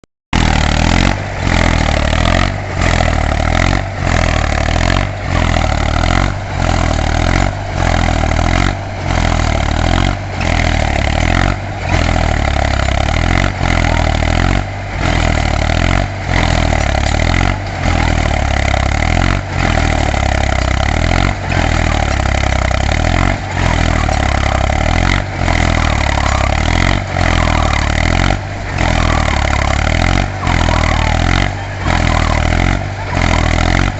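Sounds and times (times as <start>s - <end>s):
tractor diesel engine under load: 0.3s - 33.9s.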